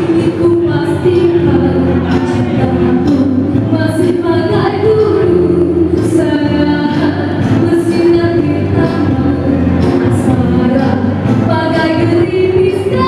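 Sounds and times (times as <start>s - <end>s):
accompanying music: 0.0s - 13.0s
woman singing slow melody: 0.0s - 13.0s.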